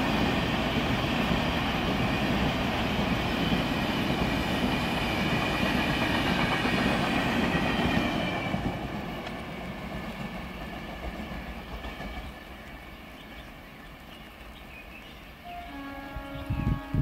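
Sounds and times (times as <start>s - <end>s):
train wheels clickety-clack on rails: 0.0s - 15.2s.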